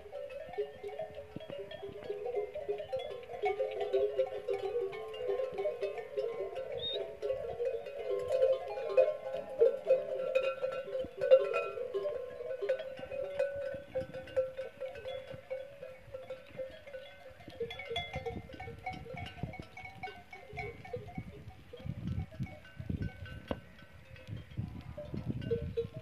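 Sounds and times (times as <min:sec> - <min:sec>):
animal bells clinking and ringing: 0:00.0 - 0:26.0.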